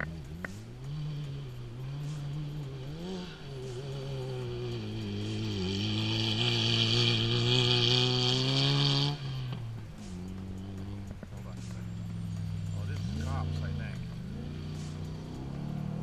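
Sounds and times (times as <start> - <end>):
off-road vehicle engine running hard: 0.0 - 16.0.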